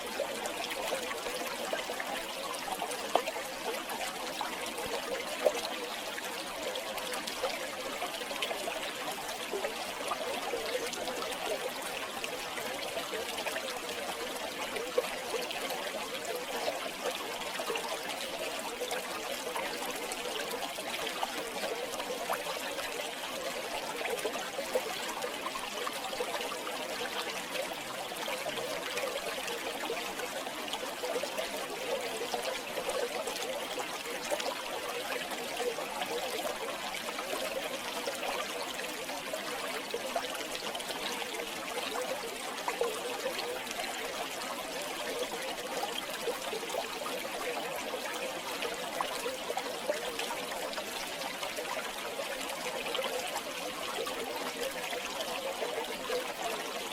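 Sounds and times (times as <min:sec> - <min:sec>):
river water babbling: 0:00.0 - 0:56.9.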